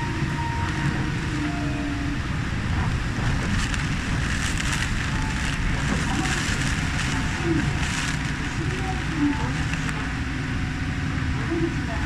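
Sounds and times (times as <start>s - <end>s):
monorail rumbling: 0.0s - 12.0s.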